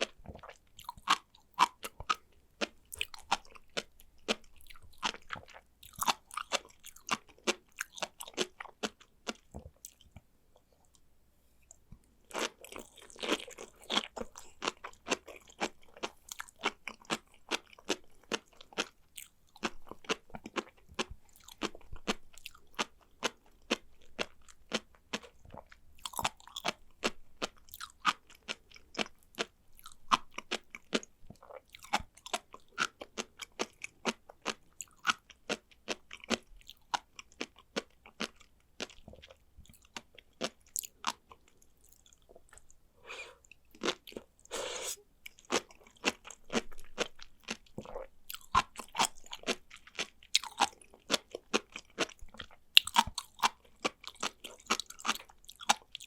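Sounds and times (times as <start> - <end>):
chewing seaweed with crunchy pops: 0.0 - 11.0, 11.7 - 42.8, 45.2 - 56.0.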